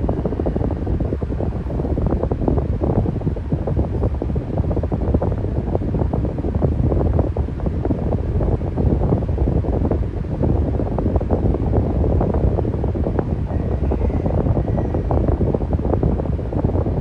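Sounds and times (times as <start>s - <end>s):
electric fan running: 0.0s - 17.0s
wind buffeting microphone: 0.0s - 17.0s.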